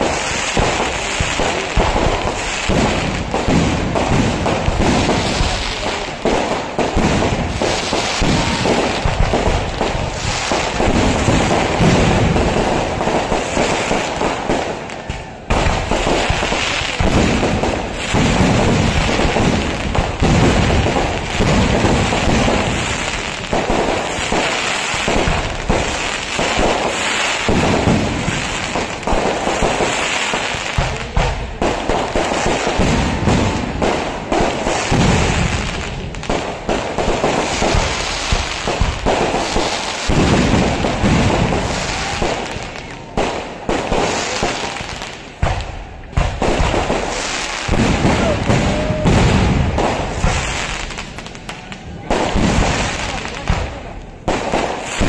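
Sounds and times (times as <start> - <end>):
fireworks explosions: 0.0 - 55.0.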